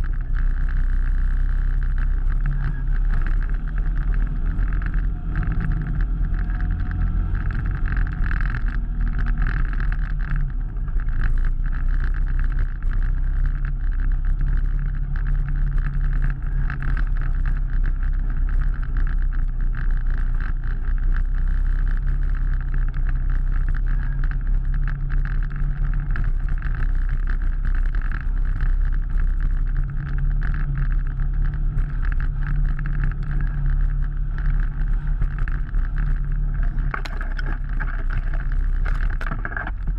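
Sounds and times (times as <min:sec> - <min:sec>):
off-road vehicle engine droning: 0:00.0 - 0:39.9.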